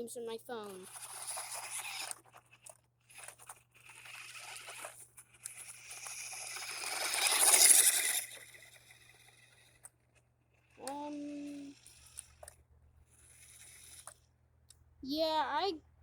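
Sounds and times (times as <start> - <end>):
rc car crunching over ground: 0.4 - 14.2.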